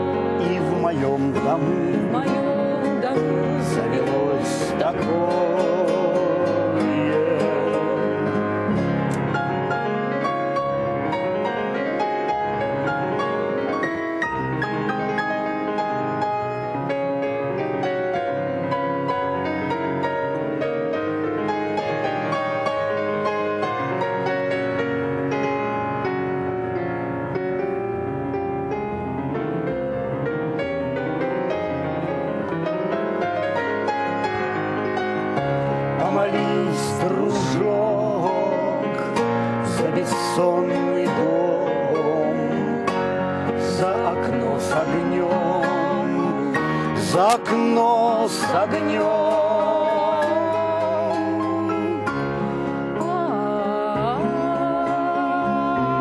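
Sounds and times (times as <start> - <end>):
instrumental folk accompaniment: 0.0 - 56.0.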